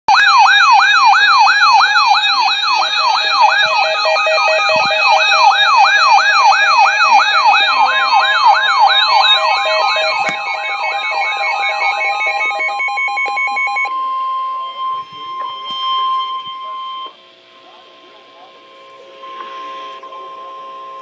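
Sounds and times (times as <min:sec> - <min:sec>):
electronic alert siren yelp: 0:00.1 - 0:17.8
steady electronic tones: 0:00.1 - 0:21.0.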